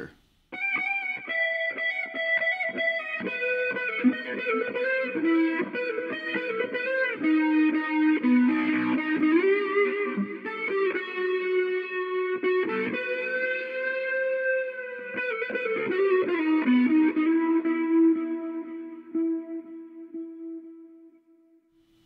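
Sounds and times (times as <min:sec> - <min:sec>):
electric guitar solo: 0:00.6 - 0:21.6.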